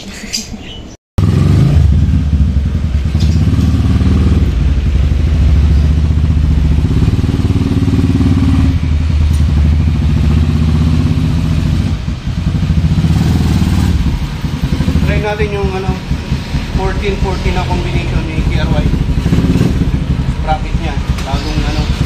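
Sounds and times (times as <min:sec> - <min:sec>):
dirt bike engine idling: 0:01.2 - 0:22.0.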